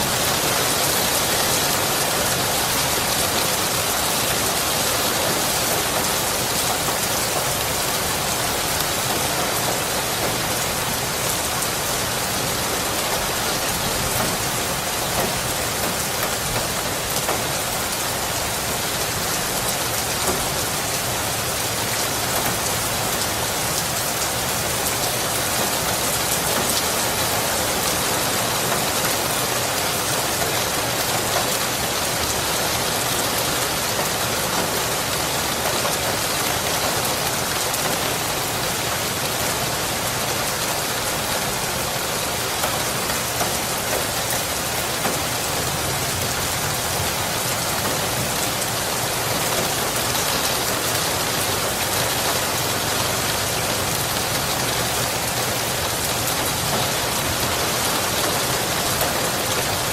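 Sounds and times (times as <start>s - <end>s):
rain hitting a surface: 0.0s - 59.9s.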